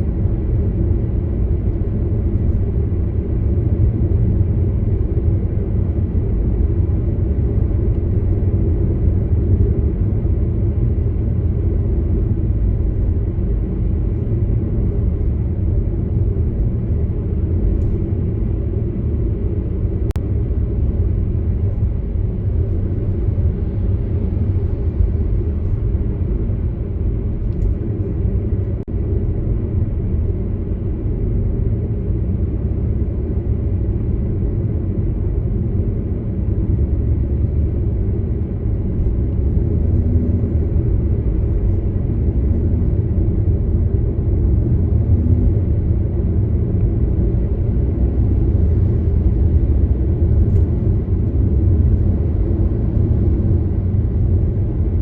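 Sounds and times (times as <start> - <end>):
car driving engine and tyre noise: 0.0 - 55.0.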